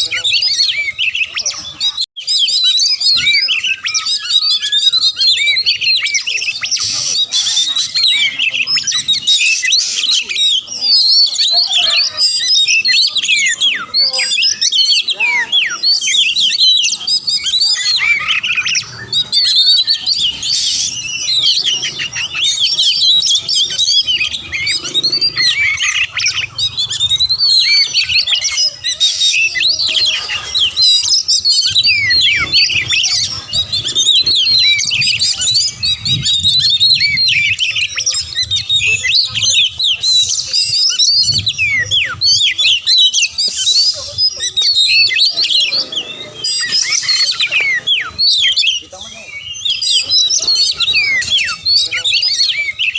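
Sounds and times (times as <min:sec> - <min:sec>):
bird singing whistles and chatter: 0:00.0 - 0:52.9.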